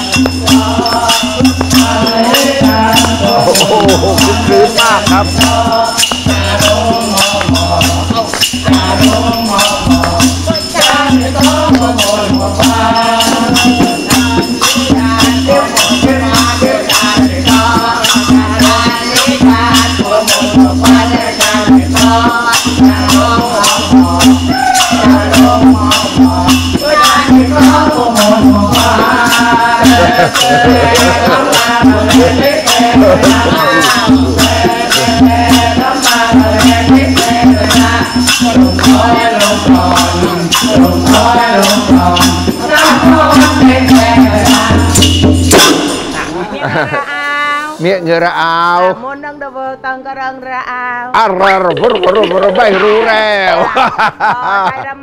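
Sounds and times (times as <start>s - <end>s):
hand drum beat: 0.0s - 46.6s, 51.5s - 53.9s
group singing together: 0.0s - 47.2s.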